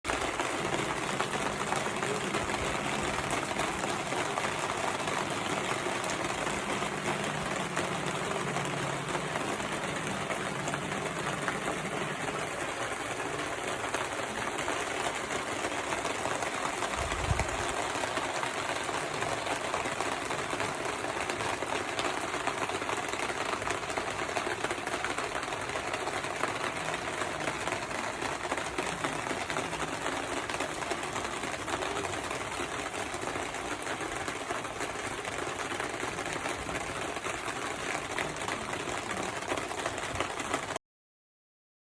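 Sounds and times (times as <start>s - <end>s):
steady rain patter: 0.0s - 40.8s.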